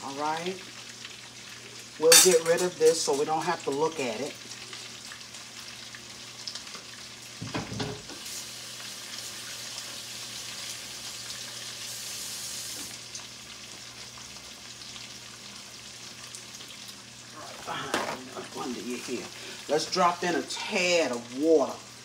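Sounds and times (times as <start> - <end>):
carrots sizzling in a frying pan: 0.0 - 22.0.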